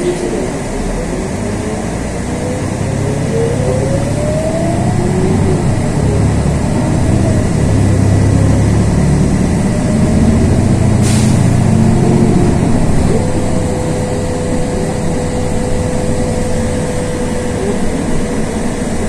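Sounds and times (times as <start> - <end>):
bus engine rumble with whine: 0.0 - 19.0.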